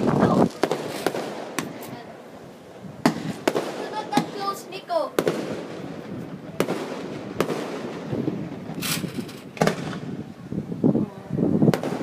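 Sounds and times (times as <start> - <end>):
firework bangs: 0.0 - 10.6, 11.6 - 12.0
firework hiss: 0.0 - 10.8.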